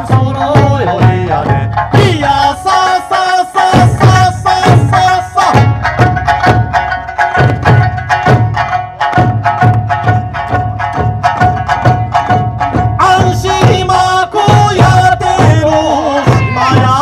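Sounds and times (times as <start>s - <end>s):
barrel drums and hand drums: 0.0s - 17.0s
folk music held melody: 0.0s - 17.0s.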